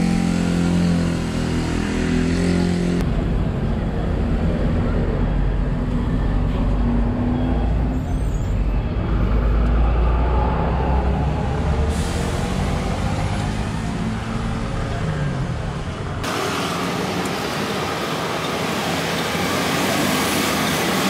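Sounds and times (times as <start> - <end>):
street market background noise: 0.0 - 21.0.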